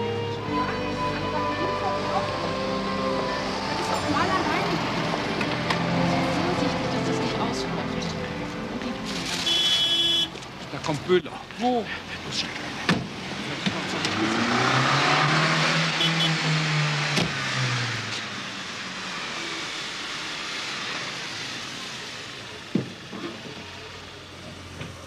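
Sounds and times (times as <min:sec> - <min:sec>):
car driving up and slowing: 0:00.0 - 0:09.5, 0:10.3 - 0:25.0.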